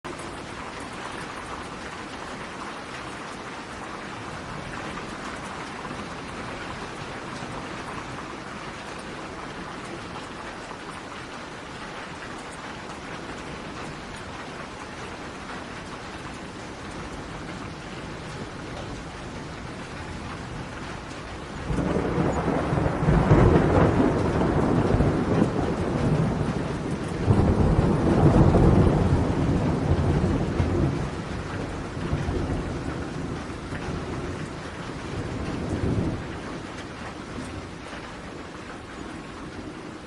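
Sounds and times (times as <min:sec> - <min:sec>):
raindrops pattering on a surface: 0:00.0 - 0:40.0
steady rain hiss: 0:00.1 - 0:40.0.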